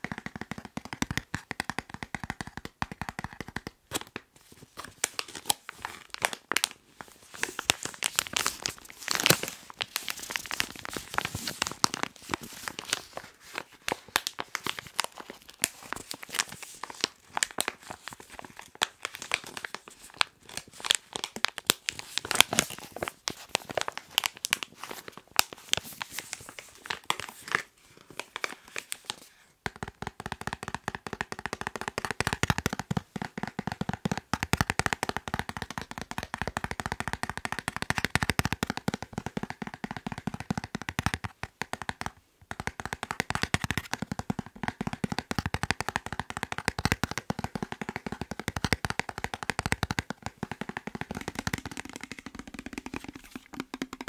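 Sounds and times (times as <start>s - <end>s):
fingers tapping plastic packet: 0.0s - 54.0s.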